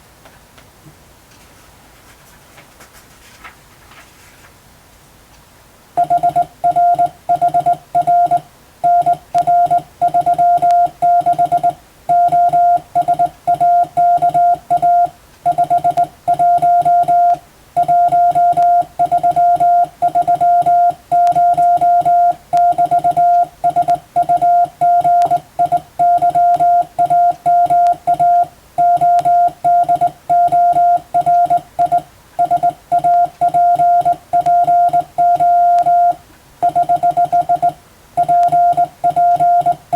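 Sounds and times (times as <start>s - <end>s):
morse code beeps: 6.0s - 39.9s.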